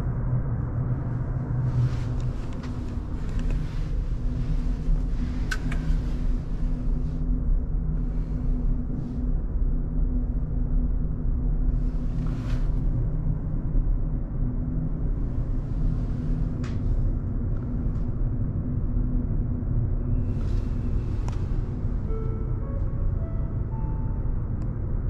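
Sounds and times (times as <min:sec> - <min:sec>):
ferry engine rumble and hum: 0:00.0 - 0:25.0.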